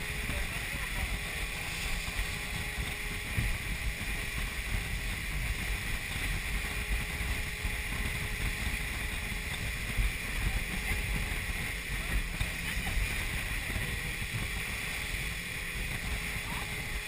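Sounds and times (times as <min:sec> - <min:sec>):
motorboat running: 0:00.0 - 0:17.0
water rushing past hull: 0:00.0 - 0:17.0
wind buffeting microphone: 0:00.0 - 0:17.0.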